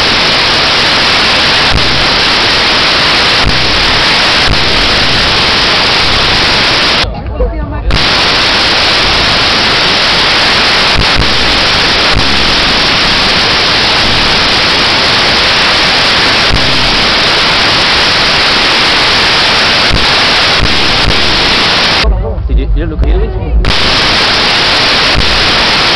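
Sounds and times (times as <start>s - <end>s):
loud static hiss: 0.0s - 7.1s, 7.7s - 25.9s.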